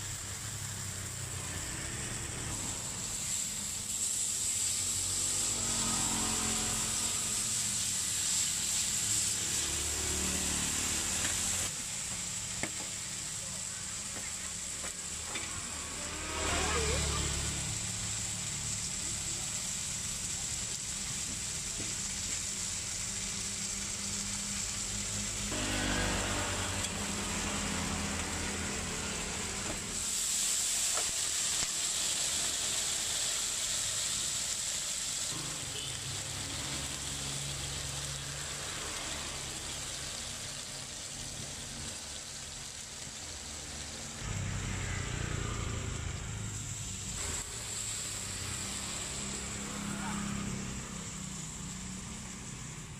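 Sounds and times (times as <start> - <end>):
burger patties sizzling on griddle: 0.0 - 52.9
hiss of steam: 0.0 - 52.9
passing street traffic rumble: 0.0 - 52.9.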